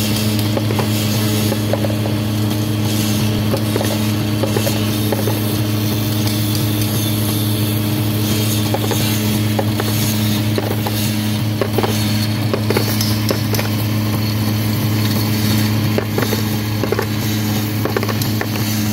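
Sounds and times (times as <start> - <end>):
electric motor hum: 0.0 - 18.9
stone grinding hiss: 0.0 - 18.9.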